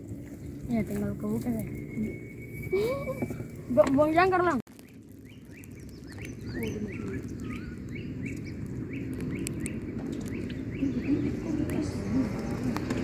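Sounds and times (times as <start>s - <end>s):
bird chirping: 0.2s - 13.0s.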